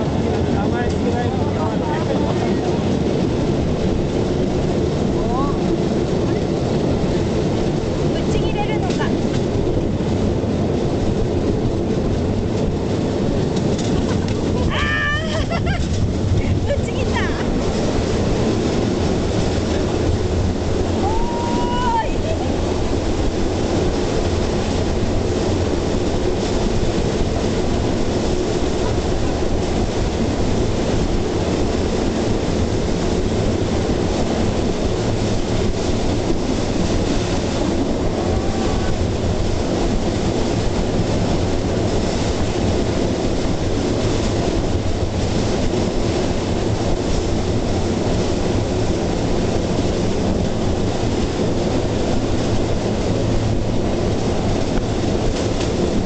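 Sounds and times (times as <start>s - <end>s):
steel wheels rolling on rails: 0.0s - 56.0s.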